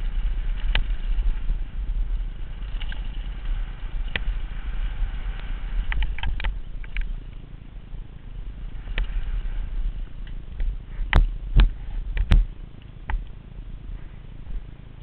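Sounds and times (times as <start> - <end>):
bike knocking and rattling: 0.0 - 15.0
tyres rumbling on gravel: 0.0 - 15.0.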